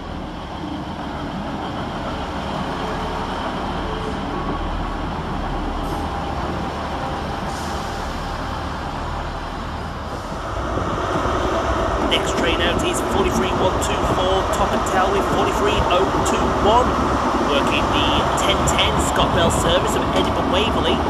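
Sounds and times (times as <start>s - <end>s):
diesel train engines running: 0.0s - 21.0s
train wheels on rails: 0.0s - 21.0s.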